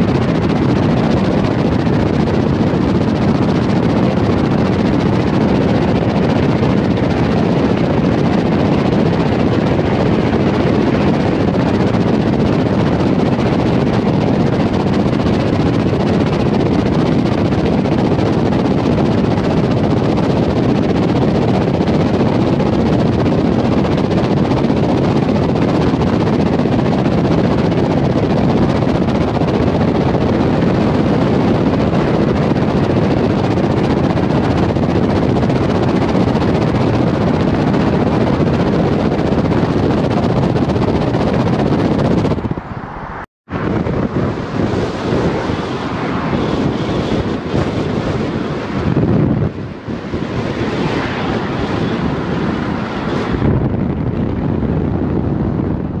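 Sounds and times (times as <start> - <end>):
car road and wind noise in tunnel: 0.0 - 56.0.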